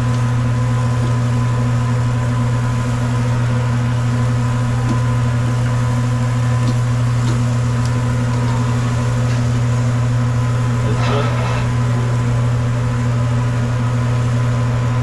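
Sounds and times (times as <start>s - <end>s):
loud steady low hum: 0.0s - 15.0s.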